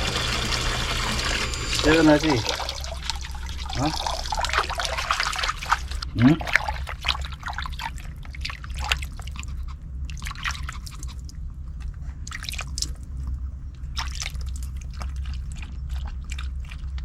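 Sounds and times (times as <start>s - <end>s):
dog lapping and chewing: 0.0s - 17.0s
low steady hum: 0.0s - 17.0s.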